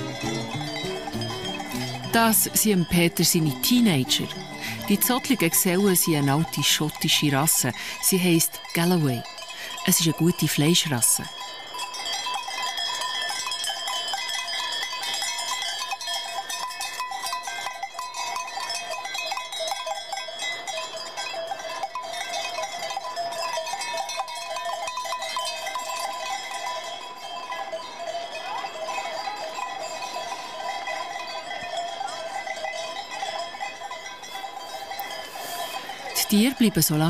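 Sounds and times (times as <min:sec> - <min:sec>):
cowbells clanking: 0:00.0 - 0:37.0.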